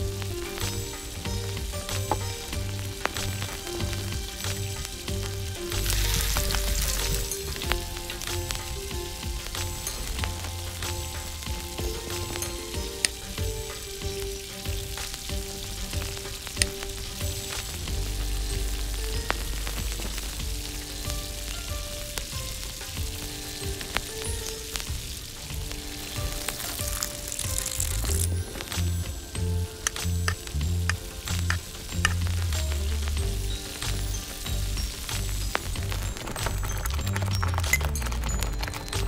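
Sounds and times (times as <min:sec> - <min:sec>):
sauce sizzling in a wok: 0:00.0 - 0:38.4
soft background music: 0:00.0 - 0:39.0
water poured into hot pan: 0:00.0 - 0:39.0.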